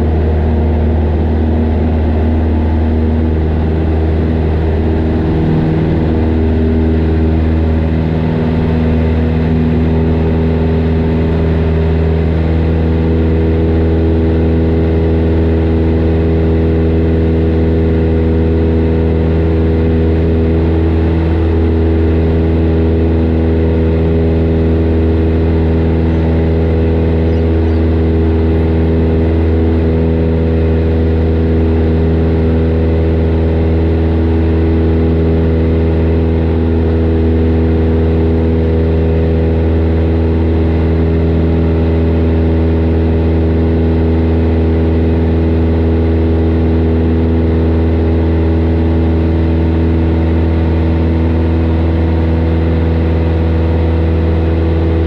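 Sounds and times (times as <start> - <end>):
airplane engine droning: 0.0 - 55.0.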